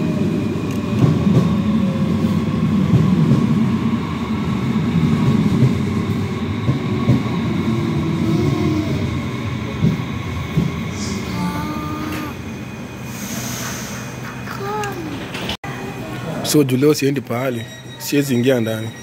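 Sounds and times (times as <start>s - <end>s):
train wheels rumbling on rails: 0.0s - 15.6s.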